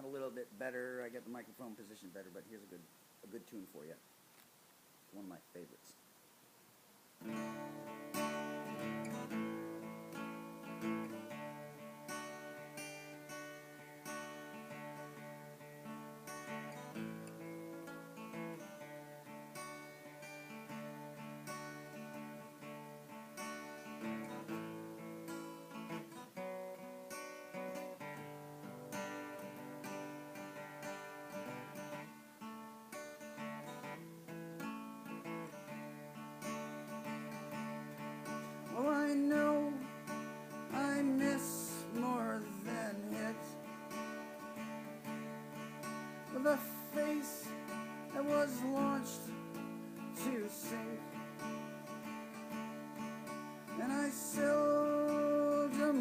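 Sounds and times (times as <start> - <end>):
acoustic guitar strumming chords: 7.2 - 56.0.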